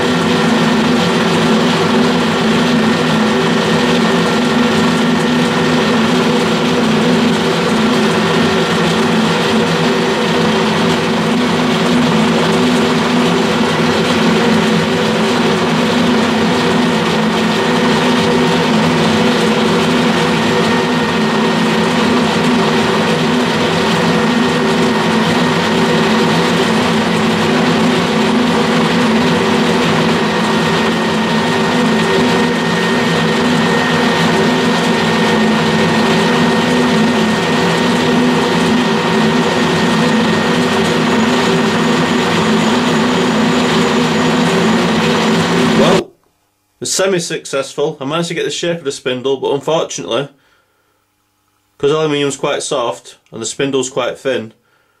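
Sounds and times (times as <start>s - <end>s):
lathe tool cutting aluminium: 0.0s - 46.0s
metal lathe gear whine: 0.0s - 46.1s.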